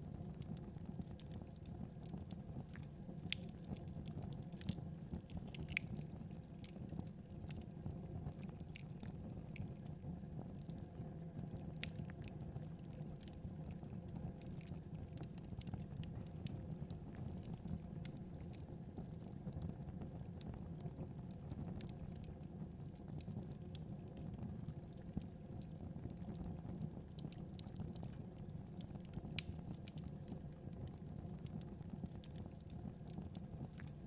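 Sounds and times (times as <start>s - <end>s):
fire crackles and pops: 0.0s - 34.0s
low rumble of flames: 0.0s - 34.0s.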